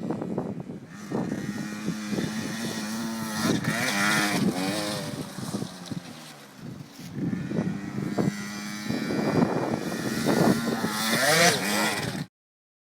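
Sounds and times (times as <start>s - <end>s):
two-stroke motorbike engine revving: 0.0s - 12.3s.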